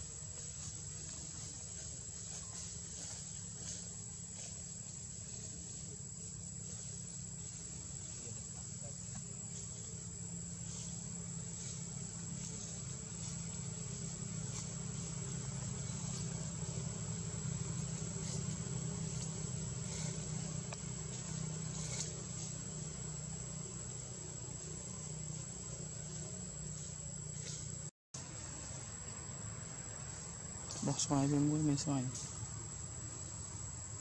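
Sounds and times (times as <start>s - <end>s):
low hum: 0.0s - 31.4s
faint insect buzzing: 0.0s - 34.0s.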